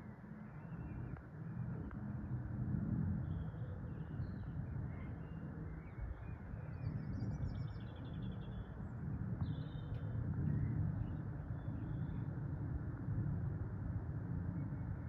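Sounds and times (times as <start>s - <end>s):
aircraft rumbling overhead: 0.0s - 15.0s.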